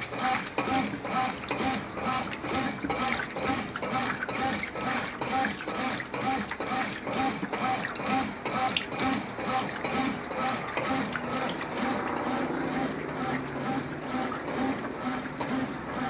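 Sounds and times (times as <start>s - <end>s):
washing machine agitating: 0.0s - 16.0s.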